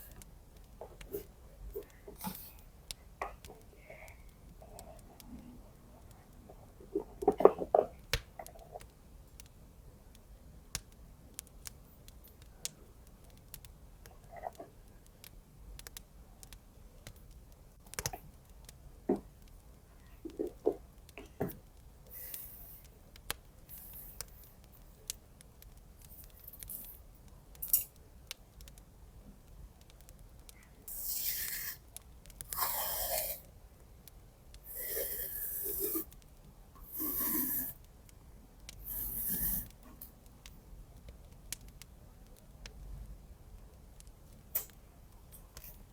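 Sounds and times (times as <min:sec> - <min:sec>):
small clicks and light taps: 0:00.0 - 0:45.9.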